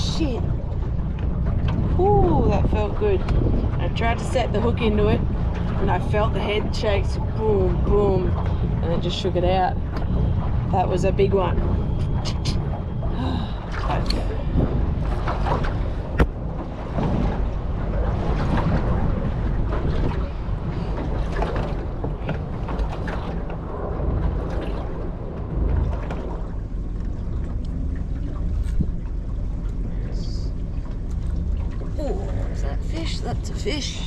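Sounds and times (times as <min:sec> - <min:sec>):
boat on choppy water: 0:00.0 - 0:34.0
wind buffeting microphone: 0:00.0 - 0:34.0.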